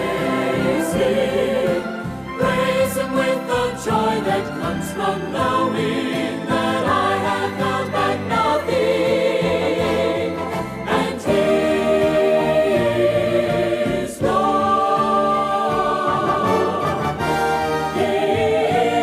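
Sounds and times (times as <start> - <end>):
vocal group singing in harmony: 0.0 - 19.0.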